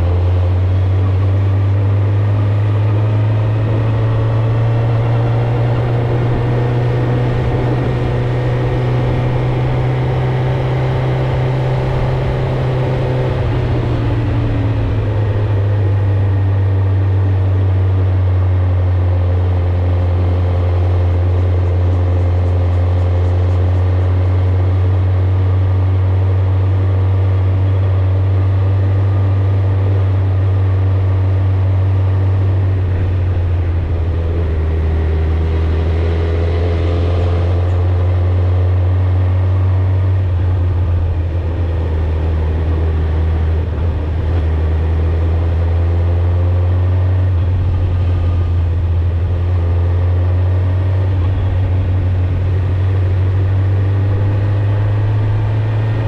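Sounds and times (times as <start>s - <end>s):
motorcycle exhaust drone: 0.0s - 56.0s.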